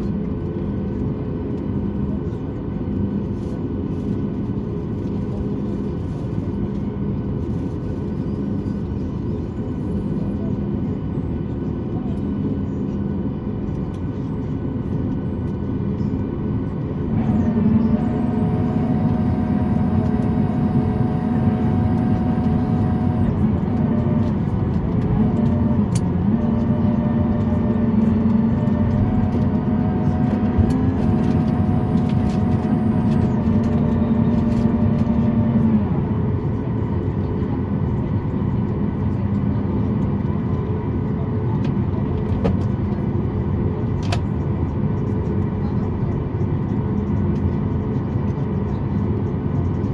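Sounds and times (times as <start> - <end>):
aircraft machinery hum: 0.0 - 49.9.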